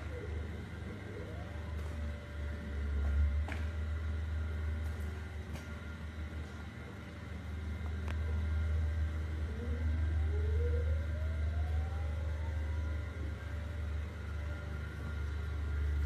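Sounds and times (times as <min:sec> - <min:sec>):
motor whine rising in pitch: 0:00.0 - 0:06.3, 0:07.6 - 0:16.0
low hum: 0:00.0 - 0:16.0.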